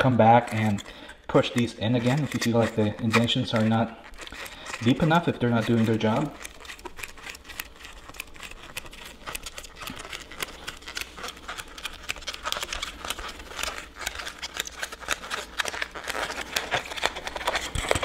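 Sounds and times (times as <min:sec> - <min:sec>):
foam board crackling: 0:00.0 - 0:18.0.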